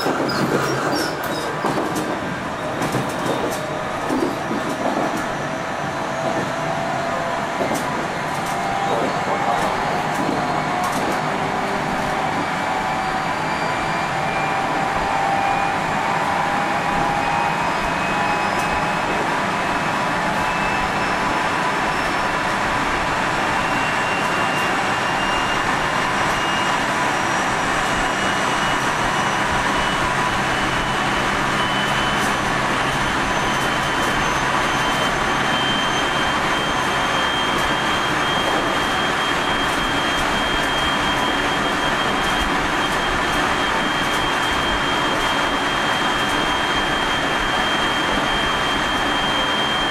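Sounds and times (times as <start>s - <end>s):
train running noise: 0.0s - 49.9s.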